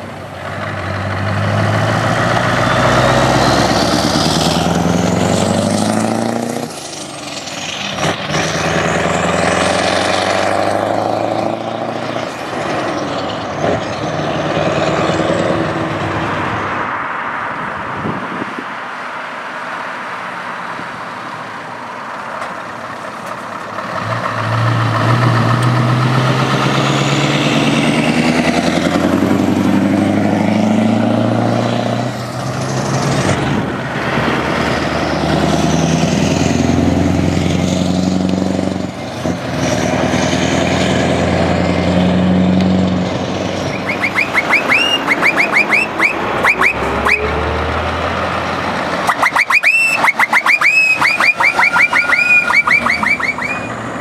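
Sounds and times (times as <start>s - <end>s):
trucks driving past: 0.0s - 54.0s.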